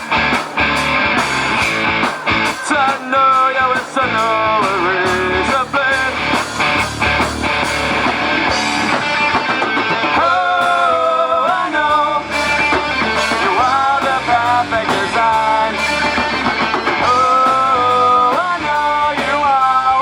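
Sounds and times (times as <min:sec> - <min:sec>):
drums: 0:00.0 - 0:20.0
guitars: 0:00.0 - 0:20.0.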